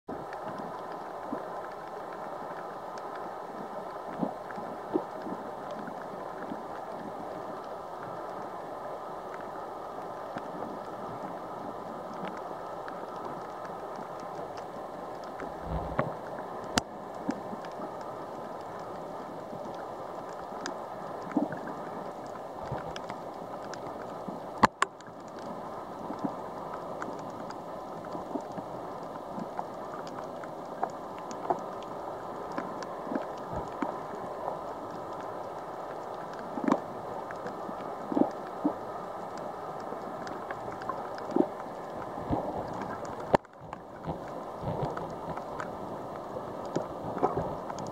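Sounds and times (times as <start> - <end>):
muffled underwater hiss: 0.1 - 47.9
small clicks and crackles: 0.1 - 47.9.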